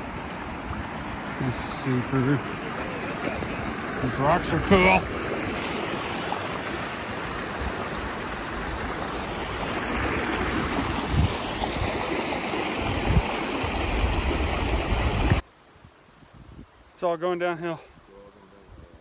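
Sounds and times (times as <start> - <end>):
creek water rushing: 0.0 - 18.8.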